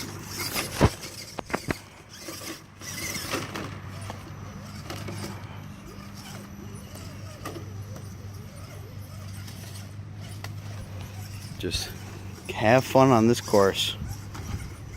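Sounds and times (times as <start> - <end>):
small electric motor and gearbox: 0.0 - 14.9.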